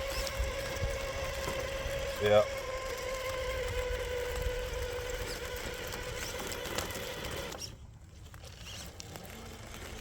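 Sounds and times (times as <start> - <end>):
electric motor and drivetrain whining: 0.0 - 10.0.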